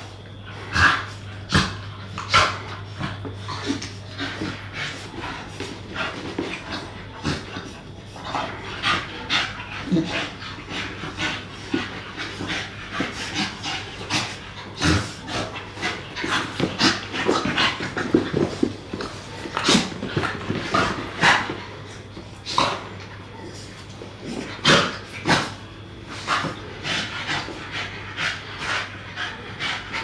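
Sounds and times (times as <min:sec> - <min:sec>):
dogs panting and huffing: 0:00.0 - 0:30.0.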